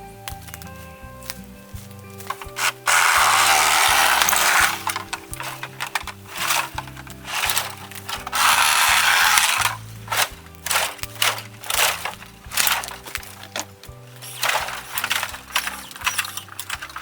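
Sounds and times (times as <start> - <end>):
background music: 0.0 - 17.0
bamboo and brush cracking: 0.0 - 17.0
crunching rustle: 0.0 - 17.0.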